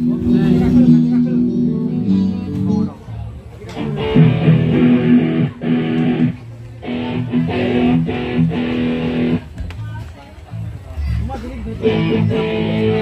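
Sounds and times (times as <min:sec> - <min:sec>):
electric guitar strumming chords: 0:00.0 - 0:09.6, 0:11.8 - 0:13.0.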